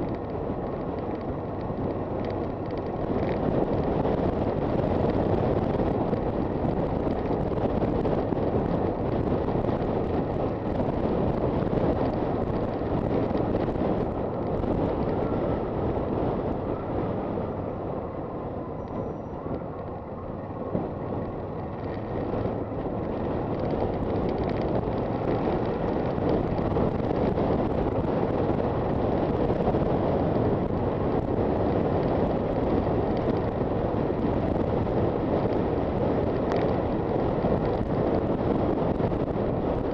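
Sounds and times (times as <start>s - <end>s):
motorcycle riding at speed: 0.0s - 39.9s
wind rushing over microphone: 0.0s - 39.9s.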